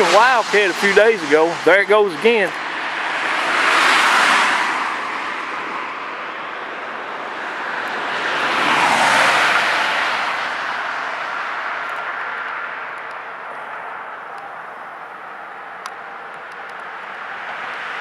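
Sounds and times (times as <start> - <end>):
cars passing with tyre hiss: 0.0 - 18.0.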